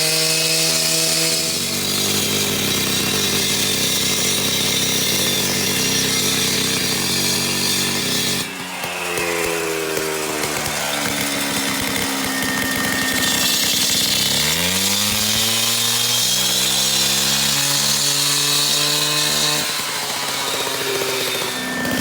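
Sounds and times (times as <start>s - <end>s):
concrete saw engine: 0.0s - 22.0s
saw blade grinding concrete: 0.0s - 22.0s.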